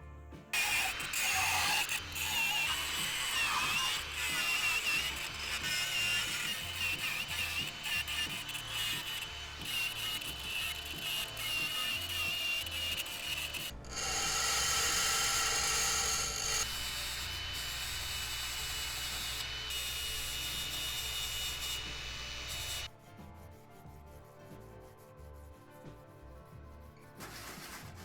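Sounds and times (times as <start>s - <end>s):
hand sanding and filing: 0.6s - 28.0s.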